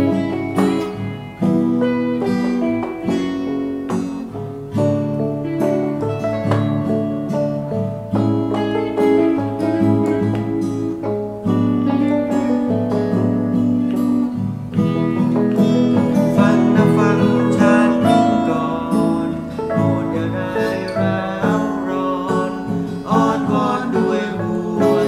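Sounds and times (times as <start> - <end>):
electric guitar: 0.0 - 25.0
keyboard chords: 0.0 - 25.0
strummed acoustic guitar: 0.0 - 25.0.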